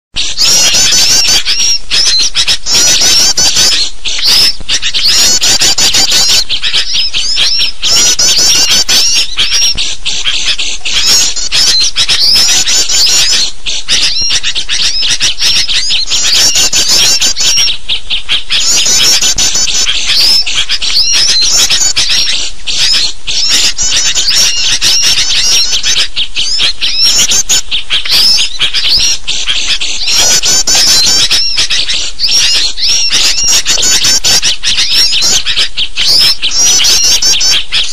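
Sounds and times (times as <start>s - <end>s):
small birds chattering: 0.1s - 37.9s
bulbul calls: 0.2s - 37.9s.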